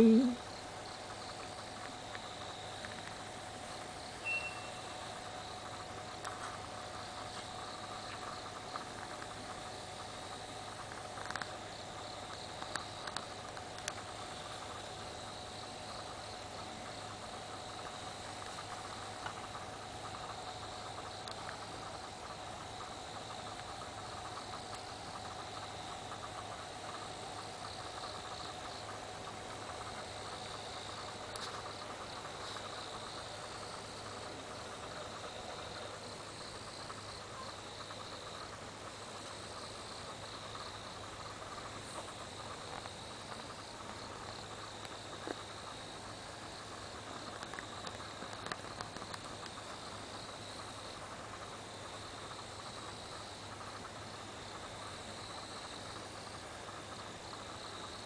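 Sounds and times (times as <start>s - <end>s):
crickets trilling: 0.0s - 58.0s
faint low hum: 0.0s - 58.0s.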